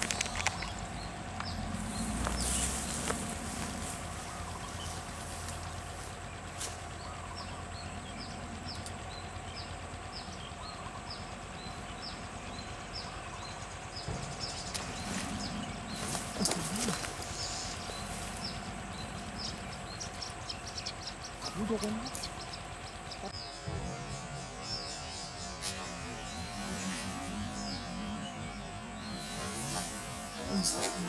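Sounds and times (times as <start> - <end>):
faint outdoor background: 0.0 - 31.0
small bird chirping: 0.0 - 31.0.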